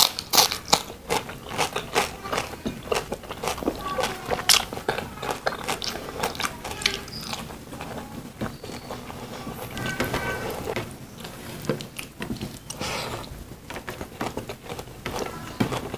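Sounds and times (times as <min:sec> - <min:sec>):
chewing and lip smacking: 0:00.0 - 0:15.9.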